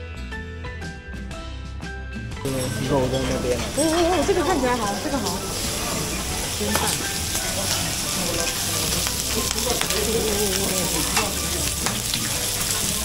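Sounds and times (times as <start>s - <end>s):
food sizzling on grill: 2.5s - 13.0s
utensils clinking: 2.5s - 13.0s.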